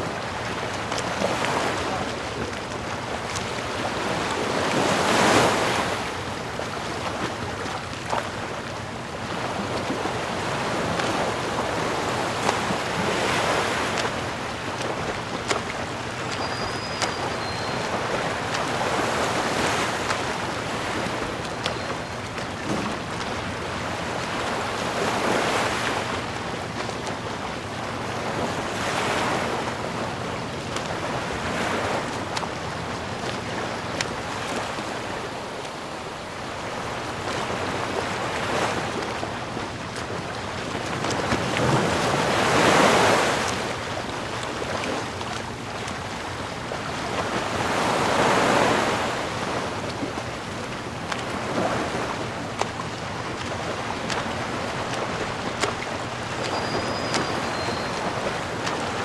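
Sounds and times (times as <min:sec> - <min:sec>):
sea waves washing in: 0:00.0 - 0:59.0.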